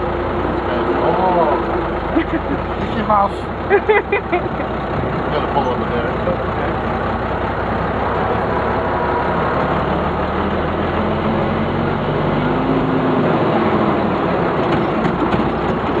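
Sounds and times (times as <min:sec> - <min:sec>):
fire engine engine running: 0:00.0 - 0:16.0.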